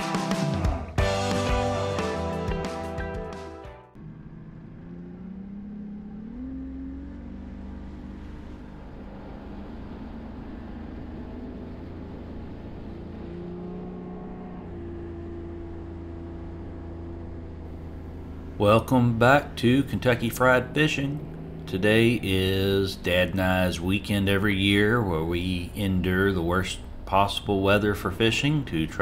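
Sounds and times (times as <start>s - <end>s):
motor engine running: 3.9s - 29.0s.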